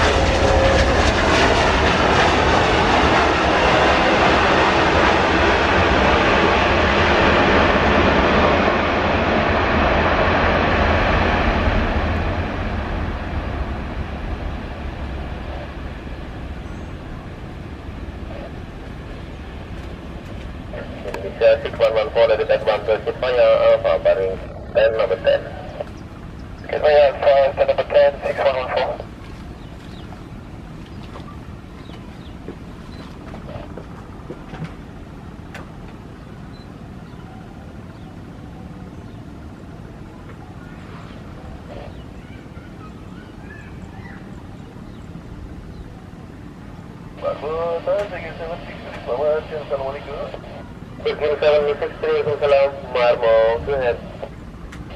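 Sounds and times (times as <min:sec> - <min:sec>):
jet engines roaring: 0:00.0 - 0:54.9
low rumbling background noise: 0:00.0 - 0:54.9.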